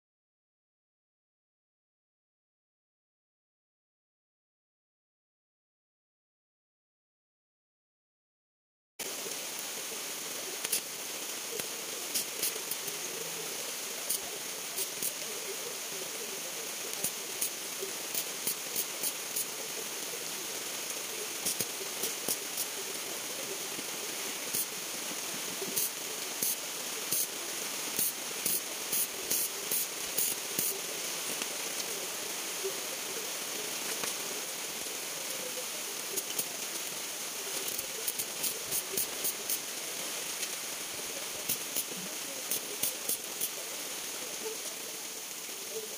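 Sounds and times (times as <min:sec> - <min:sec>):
welding arc crackling and hissing: 0:09.0 - 0:45.9.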